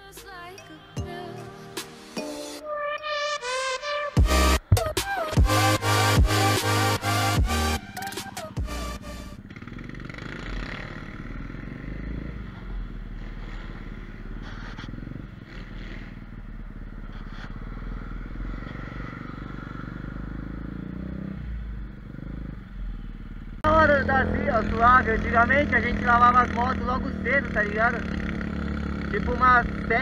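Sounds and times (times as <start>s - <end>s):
road noise: 1.4s - 30.0s
pit bike engine running: 4.2s - 30.0s.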